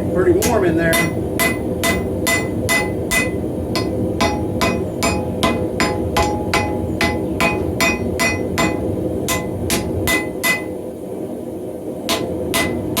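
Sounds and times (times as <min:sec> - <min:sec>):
steady low rush: 0:00.0 - 0:13.0
hammer striking steel on anvil: 0:00.4 - 0:10.8, 0:12.1 - 0:13.0.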